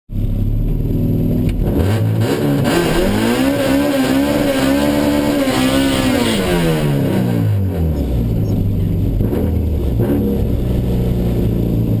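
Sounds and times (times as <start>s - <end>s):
car engine revving from inside cabin: 1.4s - 12.0s.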